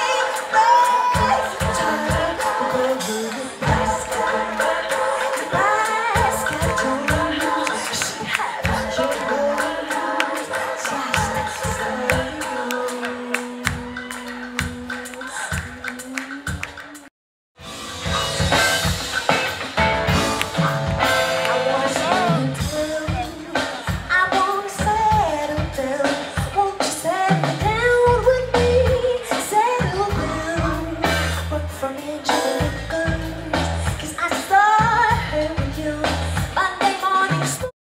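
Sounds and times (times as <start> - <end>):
person singing: 0.0 - 17.1, 20.1 - 37.7
live band music: 0.0 - 37.7.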